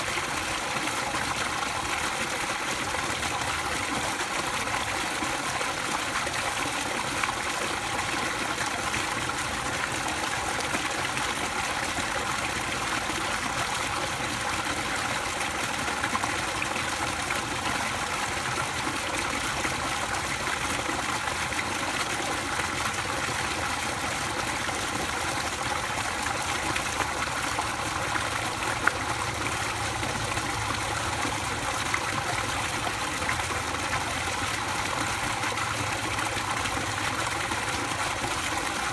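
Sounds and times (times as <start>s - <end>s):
water pouring into pool: 0.0s - 38.9s.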